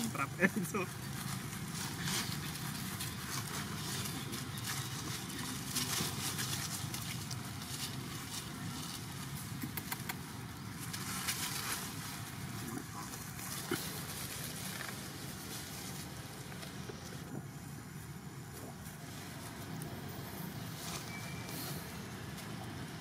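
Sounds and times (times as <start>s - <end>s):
dry leaves crackling and rustling: 0.0s - 9.6s, 10.2s - 23.0s
outdoor background hiss: 0.0s - 23.0s.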